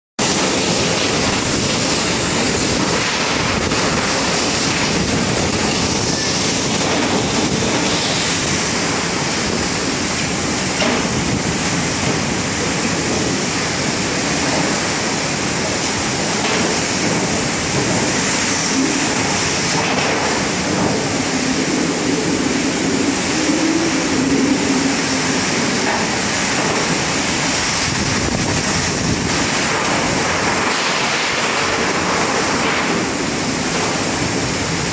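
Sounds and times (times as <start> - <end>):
heavy rain on metal roofs: 0.2 - 34.9.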